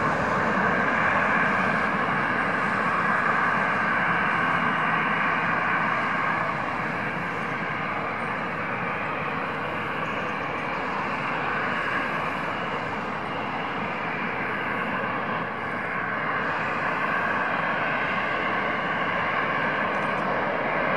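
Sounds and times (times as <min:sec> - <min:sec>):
jet engines whining: 0:00.0 - 0:20.9.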